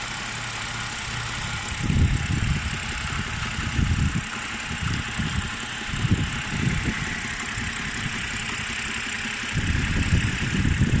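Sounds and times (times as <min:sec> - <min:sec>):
car engine idling: 0:00.0 - 0:11.0
dull engine knock: 0:01.6 - 0:11.0.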